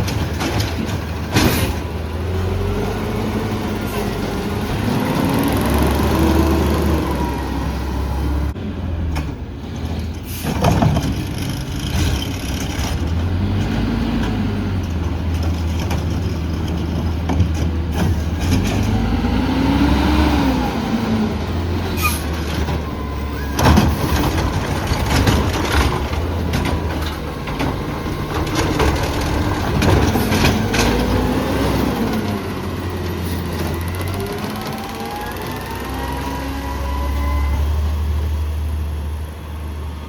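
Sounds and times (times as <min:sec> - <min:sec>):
garbage truck engine revving: 0:00.0 - 0:40.0.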